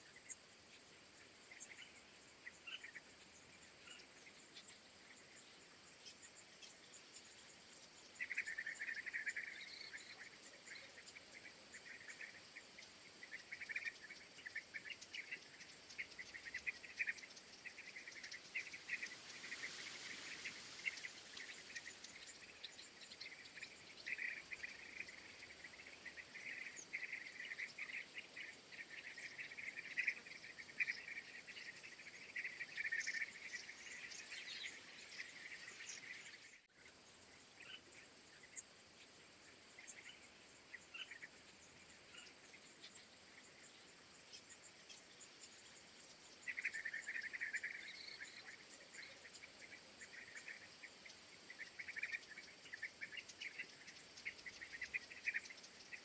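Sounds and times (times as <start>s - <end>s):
insects chirping chorus: 0.0s - 56.0s
soft hiss: 0.0s - 56.0s.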